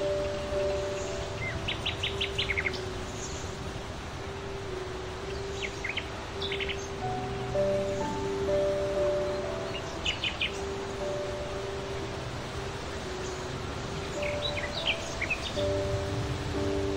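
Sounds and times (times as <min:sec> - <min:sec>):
nestling birds chirping: 0:00.0 - 0:16.9.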